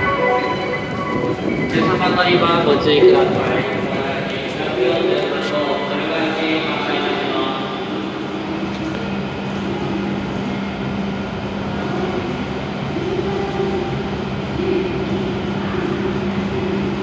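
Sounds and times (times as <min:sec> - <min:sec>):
station hall noise: 0:00.0 - 0:17.0
train electric hum: 0:00.0 - 0:17.0.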